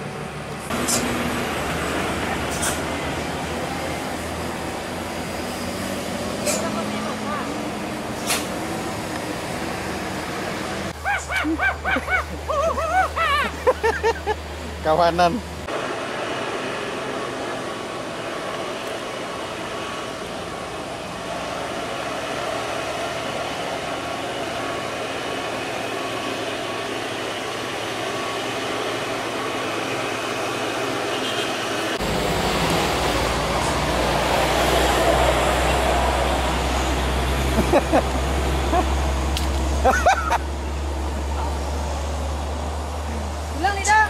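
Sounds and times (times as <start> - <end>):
truck engines and road traffic: 0.0 - 44.0.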